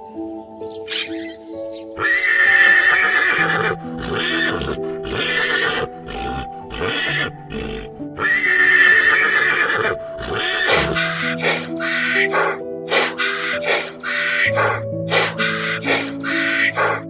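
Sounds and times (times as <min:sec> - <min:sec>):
background music: 0:00.0 - 0:17.0
horse whinnying: 0:02.0 - 0:17.0.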